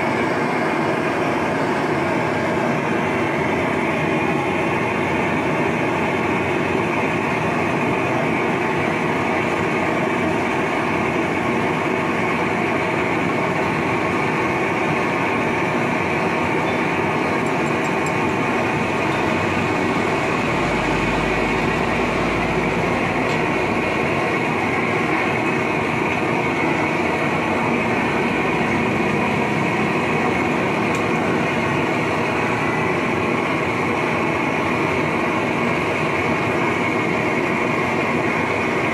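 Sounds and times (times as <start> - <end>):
gas torch roaring: 0.0 - 38.9.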